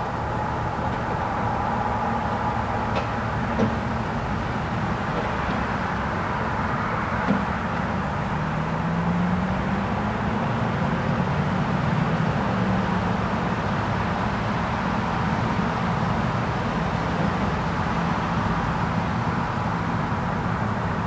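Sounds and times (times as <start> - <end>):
passing cars: 0.0 - 21.0
vehicle engine drone: 0.0 - 21.0.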